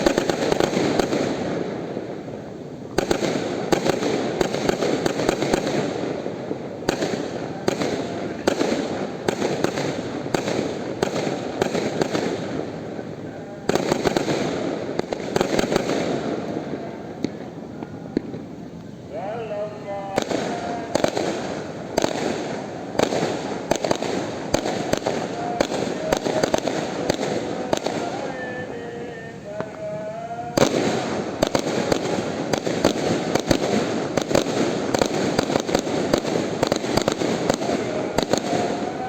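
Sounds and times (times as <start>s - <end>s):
fireworks crackling and banging: 0.0s - 39.0s.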